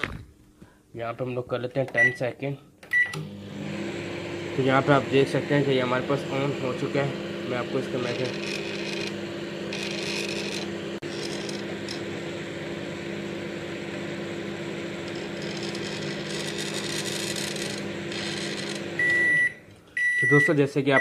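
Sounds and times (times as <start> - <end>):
microwave oven humming: 1.9 - 21.0.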